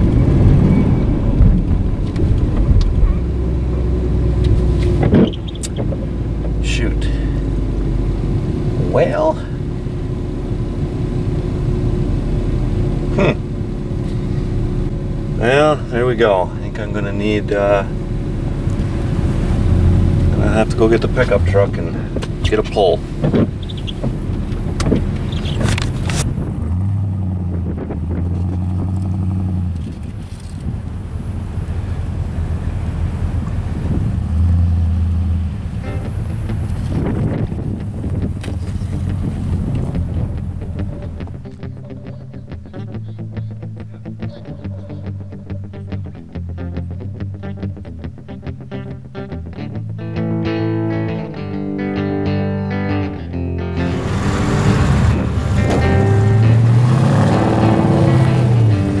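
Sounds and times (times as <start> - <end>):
truck engine running under load: 0.0 - 45.7, 53.8 - 59.0.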